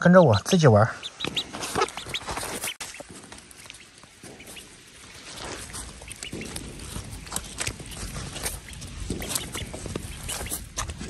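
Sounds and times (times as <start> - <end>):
duckling peeping: 0.3 - 11.0.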